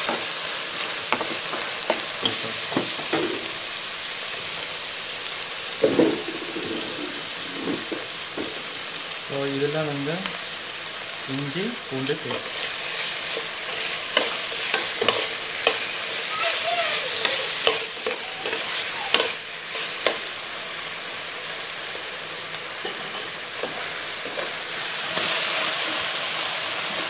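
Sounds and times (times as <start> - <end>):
food sizzling: 0.0 - 27.0.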